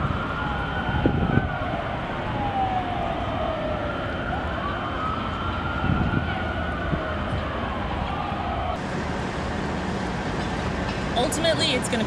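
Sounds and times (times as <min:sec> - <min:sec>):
emergency siren wailing: 0:00.0 - 0:11.8.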